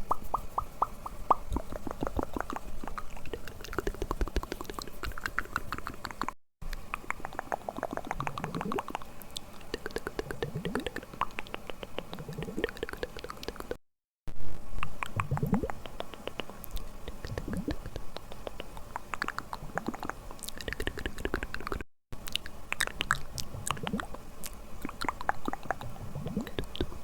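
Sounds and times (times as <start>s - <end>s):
wet mouth clicks and smacks: 0.0s - 13.8s, 14.8s - 27.0s.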